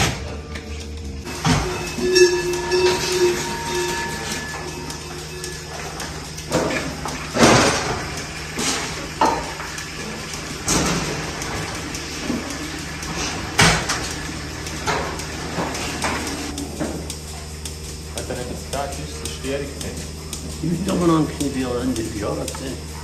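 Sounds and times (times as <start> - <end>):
low hum: 0.2 - 22.1.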